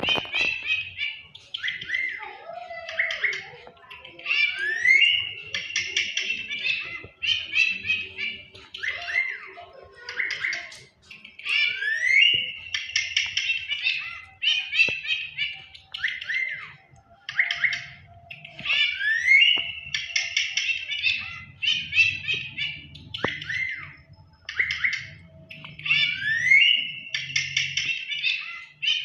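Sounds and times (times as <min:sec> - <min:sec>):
bird chirps and whistles: 0:00.0 - 0:03.5, 0:04.3 - 0:09.5, 0:10.1 - 0:29.0.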